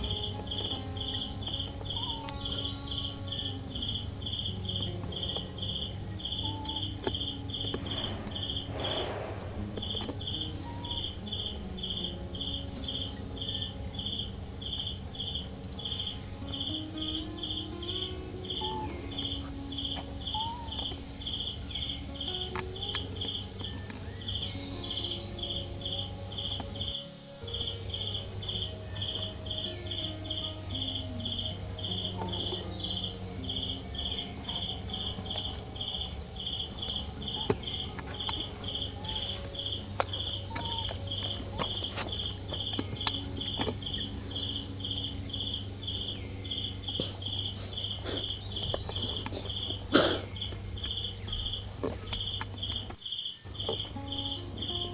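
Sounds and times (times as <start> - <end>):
high-pitched insect drone: 0.0 - 54.9
insects chirping rhythmically: 0.0 - 54.9.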